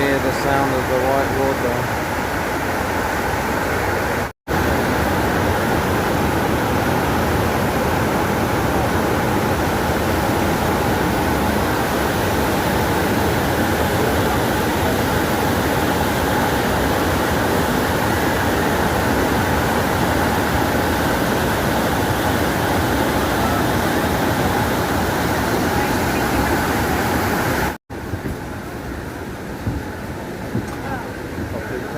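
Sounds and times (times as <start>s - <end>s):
waterfall roaring: 0.0s - 31.9s.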